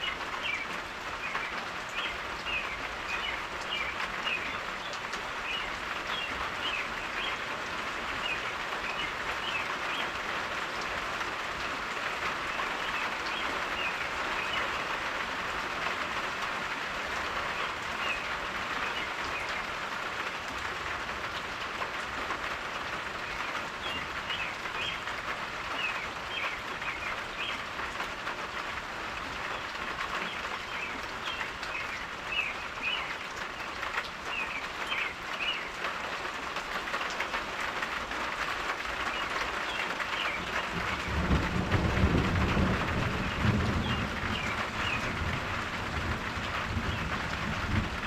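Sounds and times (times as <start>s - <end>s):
steady rain: 0.0s - 48.0s.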